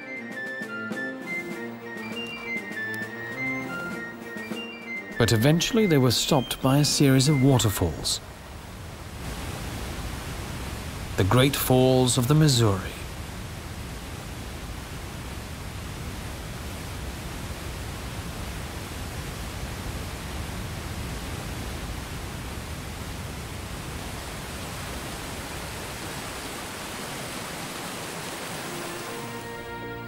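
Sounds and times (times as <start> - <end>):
waterfall rushing over rock: 5.3 - 29.8.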